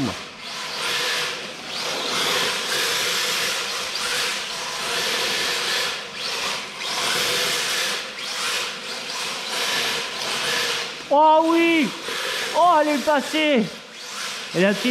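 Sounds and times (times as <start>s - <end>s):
toy car electric motor whining: 0.0s - 14.9s.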